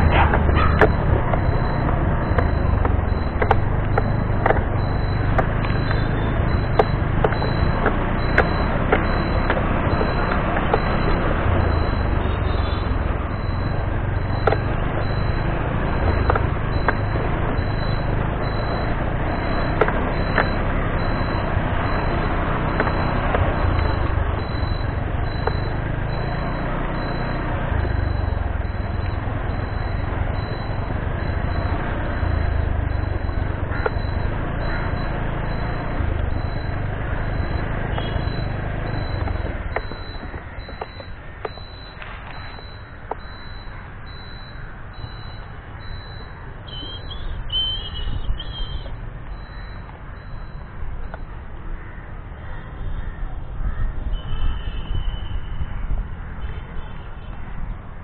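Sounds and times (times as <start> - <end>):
wind and road noise rumble: 0.0 - 58.0.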